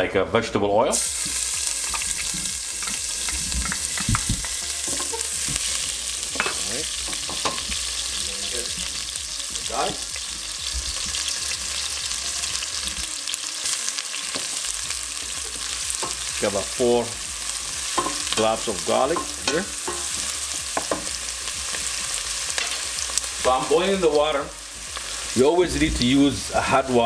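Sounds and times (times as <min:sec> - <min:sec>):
onion sizzling in oil: 0:00.9 - 0:27.0.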